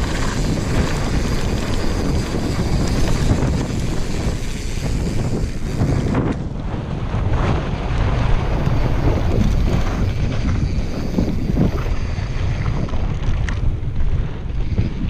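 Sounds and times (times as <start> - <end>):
sharp clicks from bike: 0.0 - 6.8, 7.8 - 15.0
tyres rumbling over dirt: 0.0 - 15.0
wind buffeting microphone: 0.0 - 15.0.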